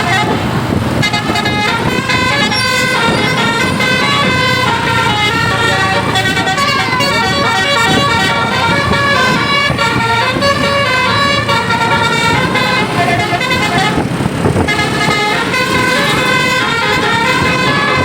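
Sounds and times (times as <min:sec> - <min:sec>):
musical air horn playing tune: 0:00.0 - 0:18.0
road and engine noise: 0:00.0 - 0:18.0.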